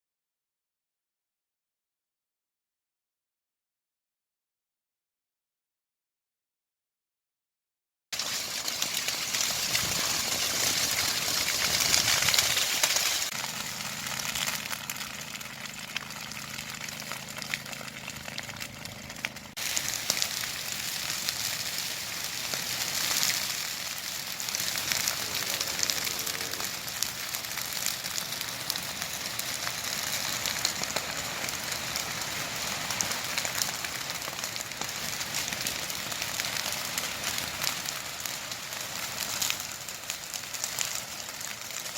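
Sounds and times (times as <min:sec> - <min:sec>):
grass fire crackling and popping: 0:08.2 - 0:41.9.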